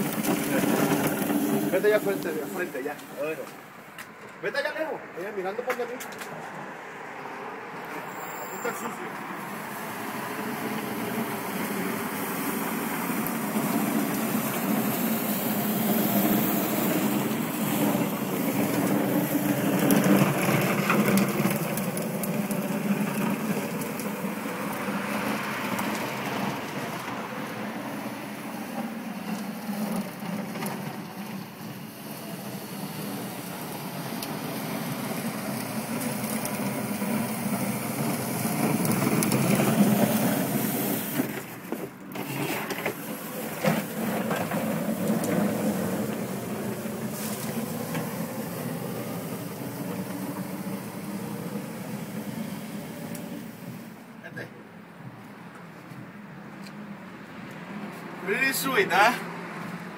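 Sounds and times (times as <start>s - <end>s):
push sweeper brushes scraping: 0.0s - 4.3s, 7.8s - 54.2s.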